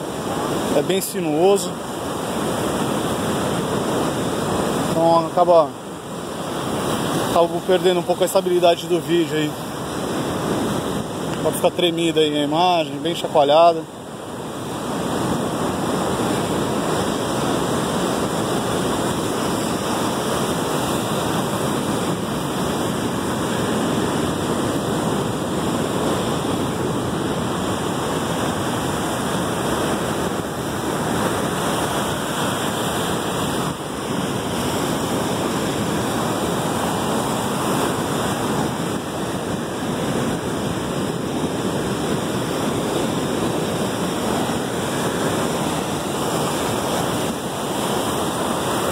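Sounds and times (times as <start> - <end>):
surf washing against rocks: 0.0 - 48.9.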